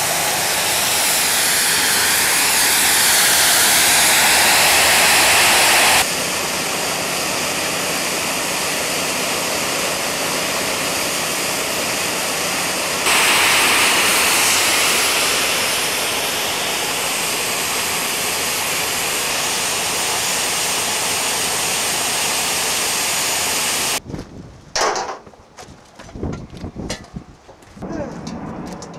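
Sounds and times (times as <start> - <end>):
jet engine roaring: 0.0 - 24.0, 27.9 - 28.9.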